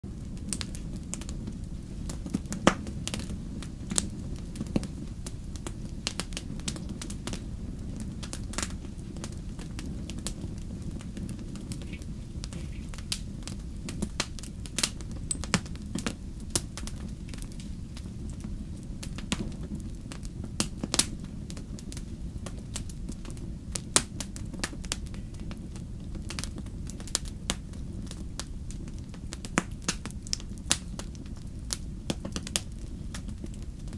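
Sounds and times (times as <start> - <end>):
campfire flames rumbling: 0.0 - 33.9
wood crackling and popping: 0.0 - 33.9.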